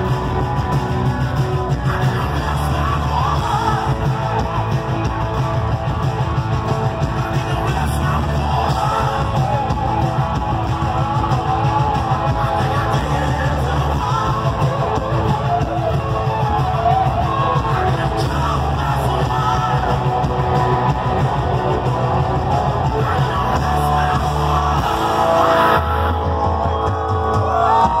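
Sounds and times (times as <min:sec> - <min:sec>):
person singing: 0:00.0 - 0:04.9, 0:06.8 - 0:26.6
rock band playing loudly: 0:00.0 - 0:28.0.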